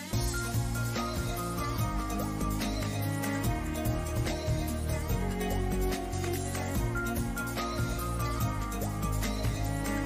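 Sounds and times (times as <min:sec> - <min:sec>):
background music with bass beat: 0:00.0 - 0:10.0.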